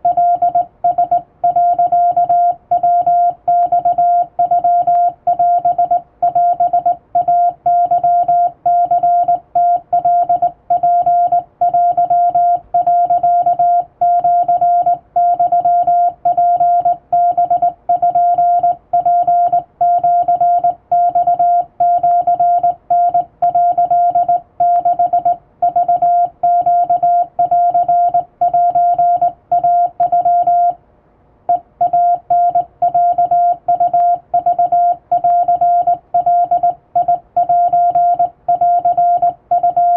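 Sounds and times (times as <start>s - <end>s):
morse code beeps: 0.0s - 30.8s, 31.5s - 39.9s.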